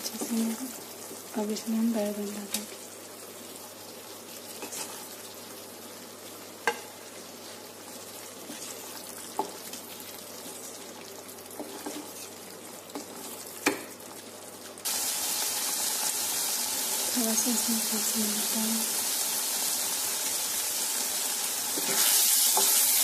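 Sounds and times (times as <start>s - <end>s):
paste sizzling in a frying pan: 0.0s - 23.0s.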